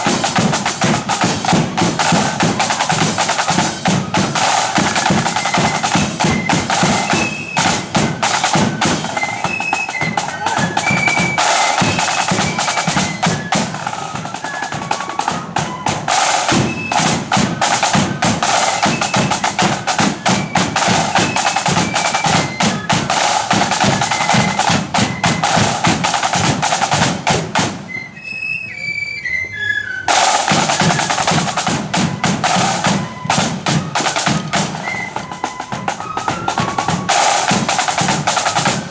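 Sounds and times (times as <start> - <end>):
fast snare drumming: 0.0 - 27.9, 30.1 - 38.9
flutes playing: 0.0 - 38.9.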